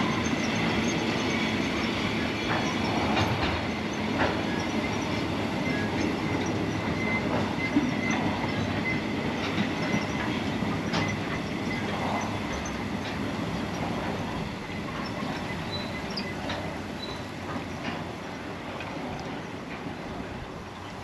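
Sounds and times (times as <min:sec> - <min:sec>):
faint high wheel squeal: 0:00.0 - 0:19.6
clacks over rail joints: 0:00.0 - 0:21.0
wheels rumbling on rail: 0:00.0 - 0:21.0.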